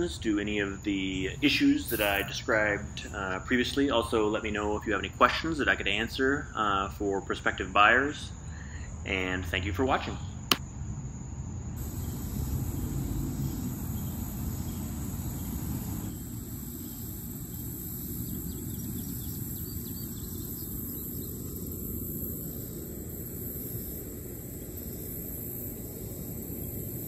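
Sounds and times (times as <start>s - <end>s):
crickets droning: 0.0s - 27.0s.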